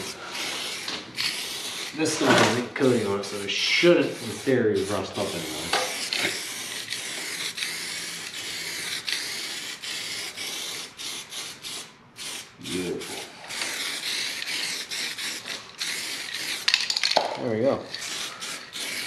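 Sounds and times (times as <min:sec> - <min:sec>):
aerosol spray can hissing: 0:00.0 - 0:02.6, 0:03.2 - 0:17.3, 0:17.9 - 0:19.0.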